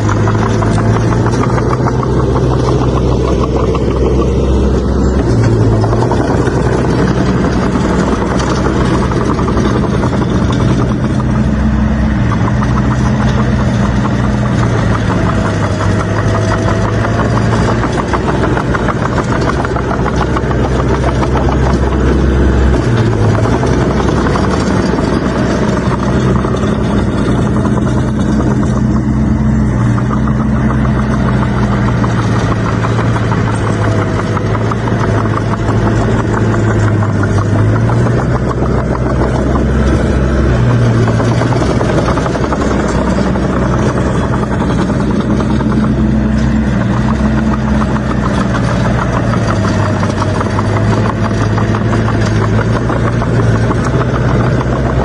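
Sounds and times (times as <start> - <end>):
bulldozer engine under load: 0.0 - 55.0
mechanical clatter: 0.0 - 55.0.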